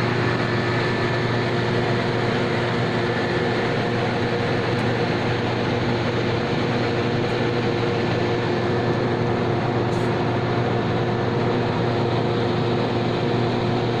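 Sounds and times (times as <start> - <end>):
heat pump humming: 0.0 - 14.0.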